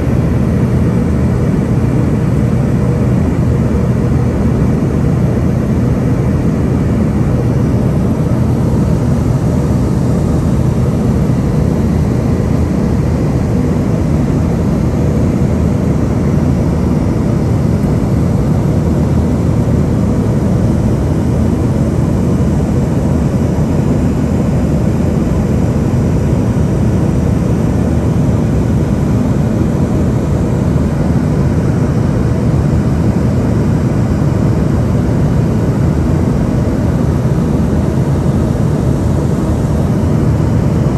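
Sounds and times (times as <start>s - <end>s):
airplane cabin engine rush: 0.0s - 40.9s.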